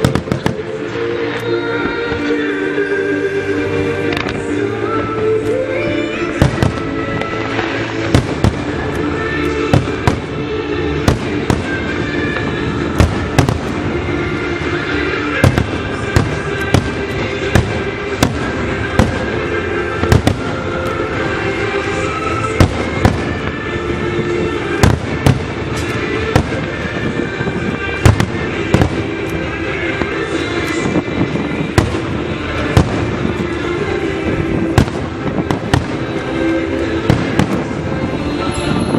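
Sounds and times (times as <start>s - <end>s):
background music: 0.0s - 38.9s.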